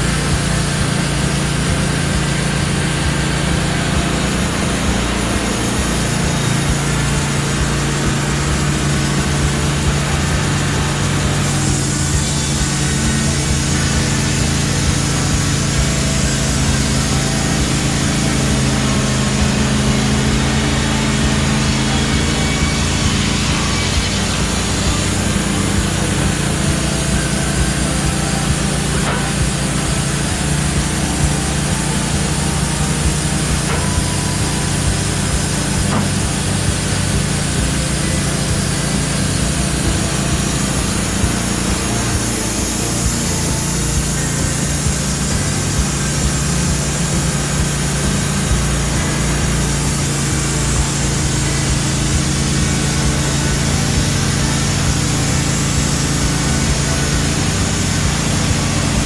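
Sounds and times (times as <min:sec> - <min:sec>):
hiss of band saw blade: 0:00.0 - 0:59.0
sawmill engine running: 0:00.0 - 0:59.0.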